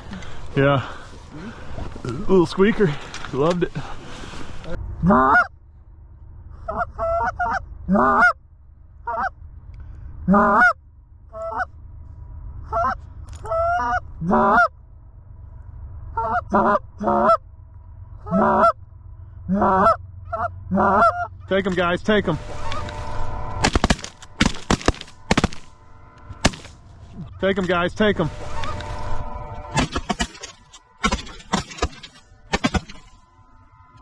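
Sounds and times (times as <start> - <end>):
geese honking: 0.0 - 5.5, 6.6 - 8.4, 9.0 - 9.4, 10.2 - 11.7, 12.6 - 14.8, 16.1 - 17.4, 18.2 - 18.8, 19.5 - 34.0.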